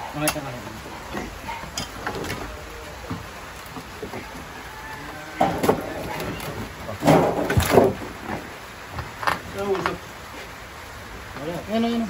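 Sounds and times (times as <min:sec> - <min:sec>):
wooden planks knocking and scraping: 0:00.2 - 0:10.5.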